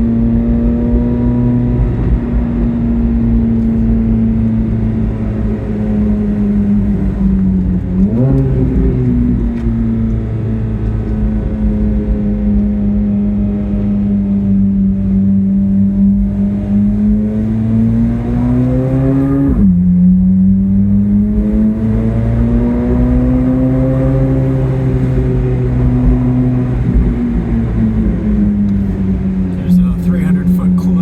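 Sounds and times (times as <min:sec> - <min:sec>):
sports car engine accelerating: 0:00.0 - 0:31.0.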